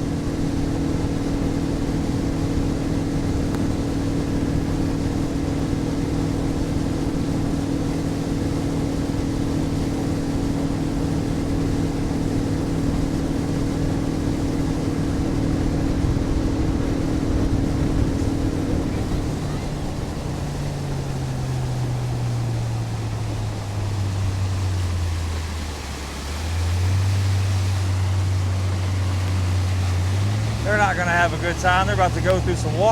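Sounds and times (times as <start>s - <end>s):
motorboat engine drone: 0.0s - 32.9s
rush of wind and water: 0.0s - 32.9s.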